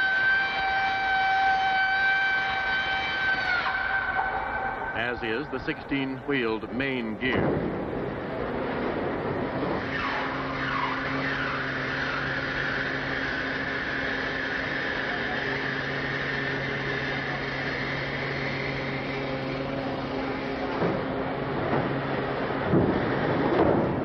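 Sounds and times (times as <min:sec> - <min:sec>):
hydraulic whine: 0:00.0 - 0:24.0
low hum: 0:02.6 - 0:24.0.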